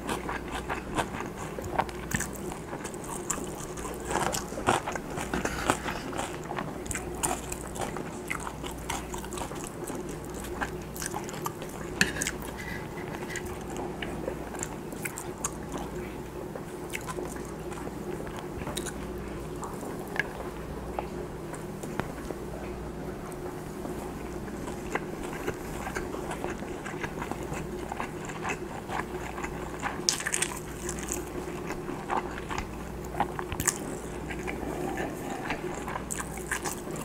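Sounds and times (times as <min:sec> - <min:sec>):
wet chewing mouth sounds: 0:00.0 - 0:22.2, 0:24.1 - 0:37.0
steady low hum: 0:00.0 - 0:37.0.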